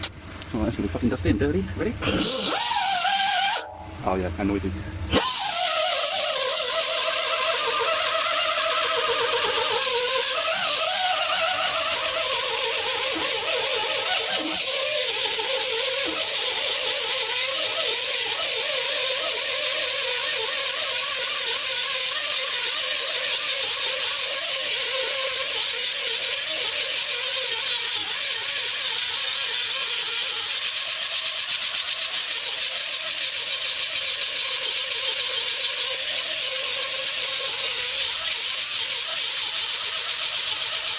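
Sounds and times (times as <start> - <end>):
power grinder buffing rubber: 2.0 - 3.7, 5.1 - 40.9.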